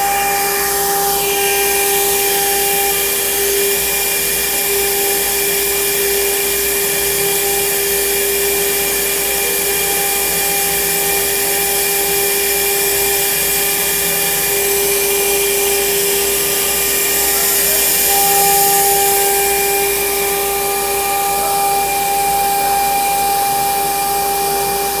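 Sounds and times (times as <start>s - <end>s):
cnc router spindle whine: 0.0s - 25.0s
dust extraction vacuum hiss: 0.0s - 25.0s
higher whine: 0.0s - 25.0s.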